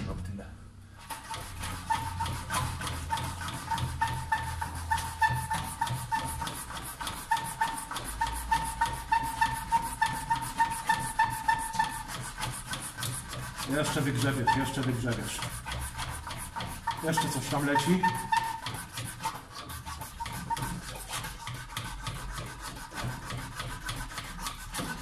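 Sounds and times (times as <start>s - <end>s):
hand pump squeaking and clicking: 1.1s - 25.0s.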